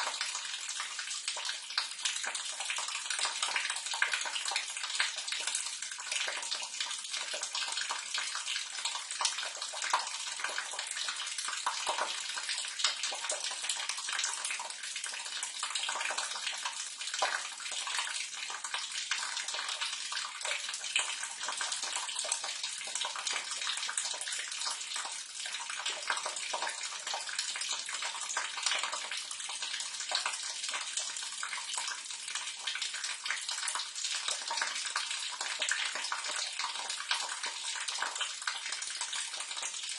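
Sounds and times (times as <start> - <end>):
water splashing down a drain: 0.0 - 39.9.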